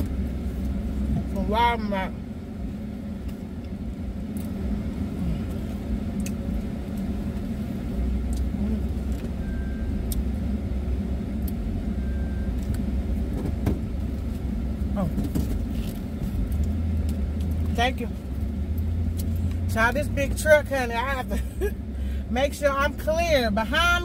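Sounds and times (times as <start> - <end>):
engine and air conditioning rumble: 0.0 - 24.0.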